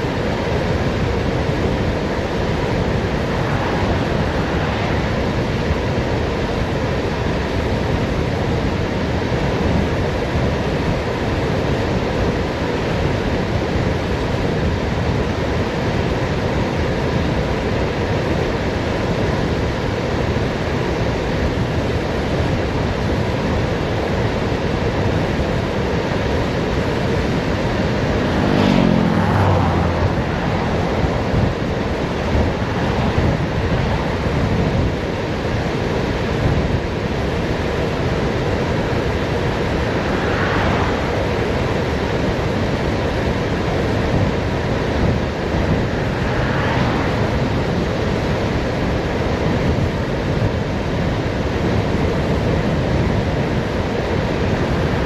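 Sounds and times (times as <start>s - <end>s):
passing vehicle: 0.0s - 55.0s
wind rushing over microphone: 0.0s - 55.0s.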